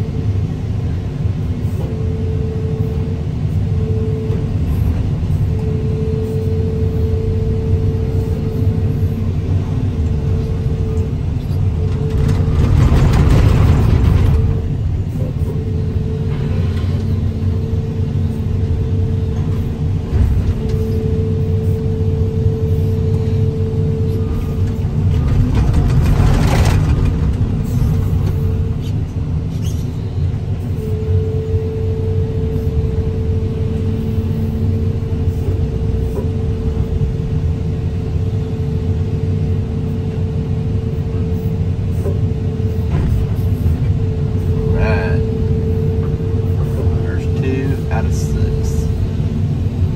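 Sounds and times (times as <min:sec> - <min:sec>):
excavator diesel engine under load: 0:00.0 - 0:49.9.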